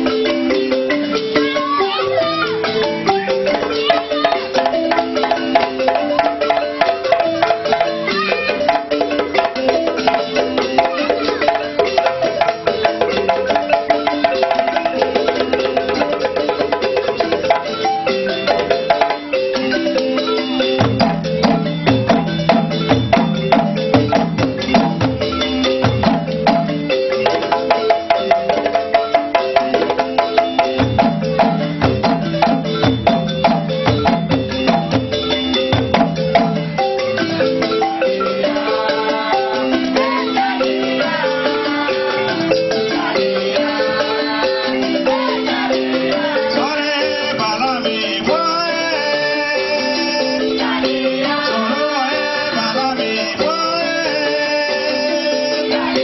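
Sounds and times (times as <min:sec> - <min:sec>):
wooden xylophones playing: 0:00.0 - 0:56.0.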